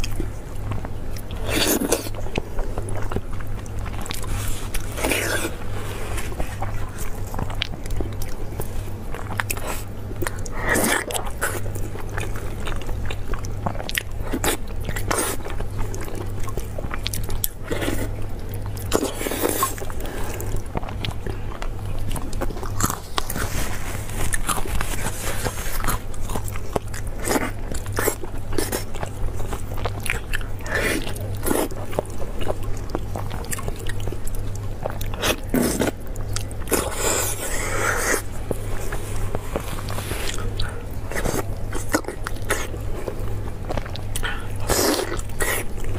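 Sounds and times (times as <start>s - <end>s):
person chewing meat: 0.0s - 45.9s.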